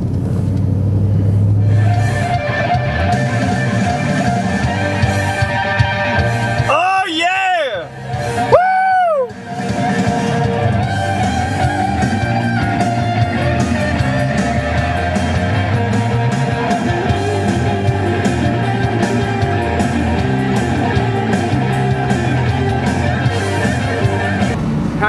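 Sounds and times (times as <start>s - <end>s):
rock song with guitar: 1.7s - 24.6s
steady drum beat: 2.0s - 24.6s.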